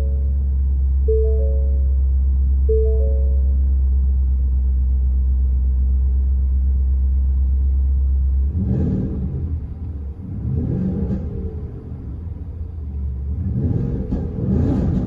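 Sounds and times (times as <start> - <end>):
truck engine idling and revving: 0.0 - 15.0.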